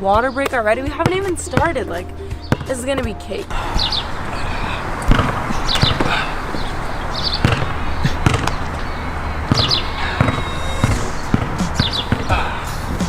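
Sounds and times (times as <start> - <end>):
basketball bouncing on a court: 0.9 - 1.7, 2.5 - 2.8, 3.5 - 13.0.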